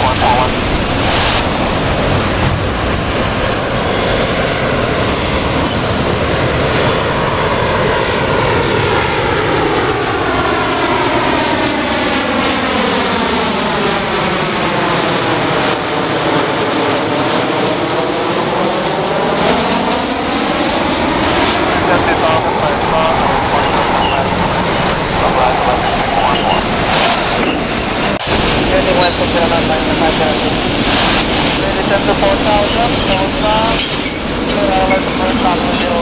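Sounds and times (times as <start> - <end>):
jet engines passing overhead: 0.0 - 36.0.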